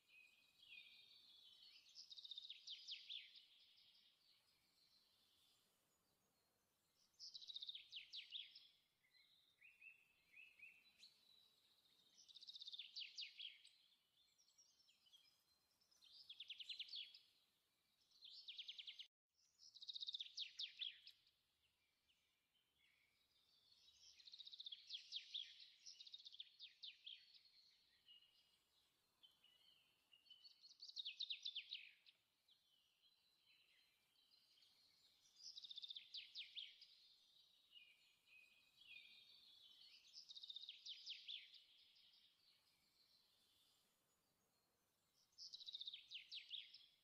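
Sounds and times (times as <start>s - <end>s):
faint bird song trills: 0.0s - 47.0s.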